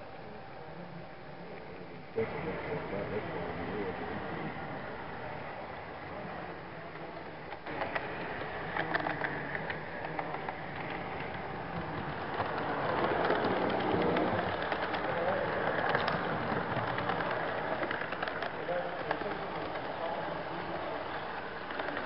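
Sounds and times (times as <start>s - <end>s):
model train rattling whir: 1.0s - 22.0s
wheels clicking on rails: 1.6s - 22.0s.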